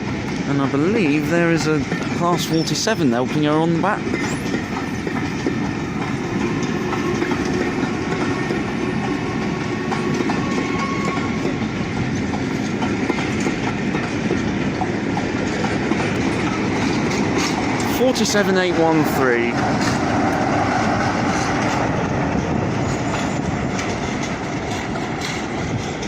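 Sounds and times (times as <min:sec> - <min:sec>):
train coaches rolling past: 0:00.0 - 0:26.0.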